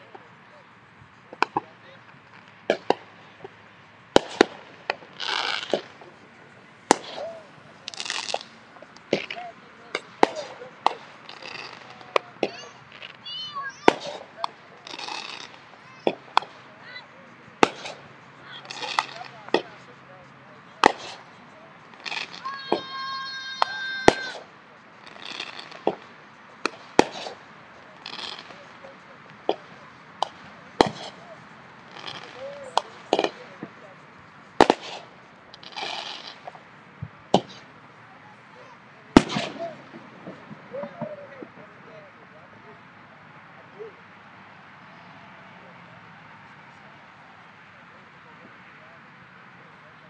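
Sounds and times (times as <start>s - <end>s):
hissing crackle of fireworks: 0.0s - 42.6s
fireworks bangs: 1.2s - 41.8s.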